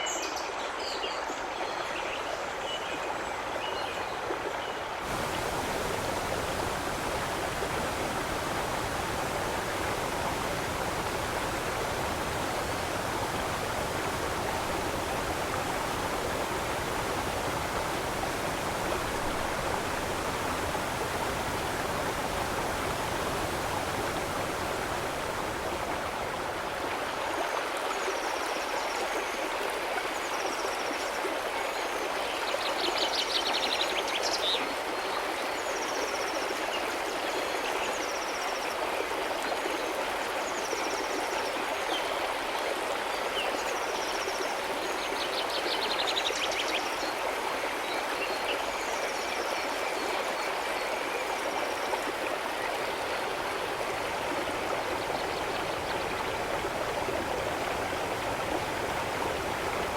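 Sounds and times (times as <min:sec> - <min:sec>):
stream water rushing: 0:03.0 - 0:30.5, 0:39.0 - 0:59.9.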